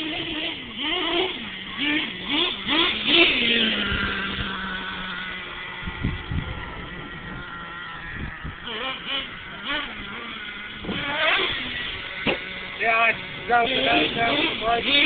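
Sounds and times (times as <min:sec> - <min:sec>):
small nitro engine revving: 0:00.0 - 0:15.0.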